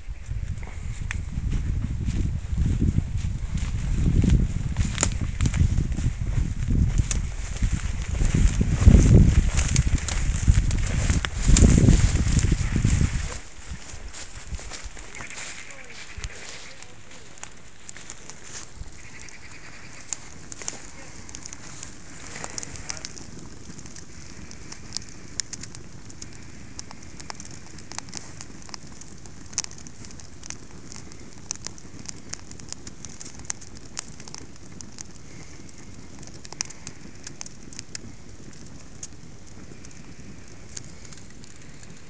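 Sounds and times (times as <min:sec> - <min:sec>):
plastic bottle crackling and popping: 0:03.9 - 0:42.0.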